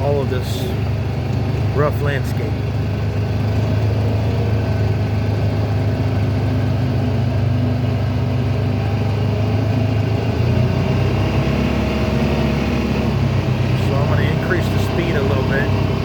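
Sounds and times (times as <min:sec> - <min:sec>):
deeper low hum: 0:00.0 - 0:16.0
utility vehicle engine running: 0:00.0 - 0:16.0.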